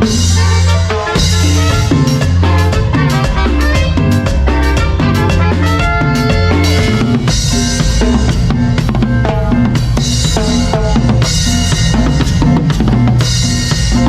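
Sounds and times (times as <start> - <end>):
bass drum and snare beat: 0.0 - 14.0
live band playing: 0.0 - 14.0.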